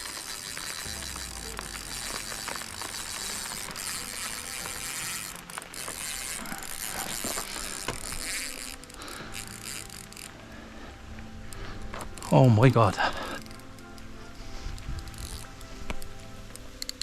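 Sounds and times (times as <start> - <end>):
fishing reel drag buzzing: 0.0 - 10.5, 13.4 - 17.0.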